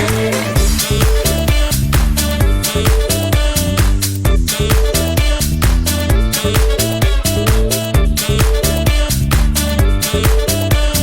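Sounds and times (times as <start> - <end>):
upbeat disco dance track: 0.0 - 11.0.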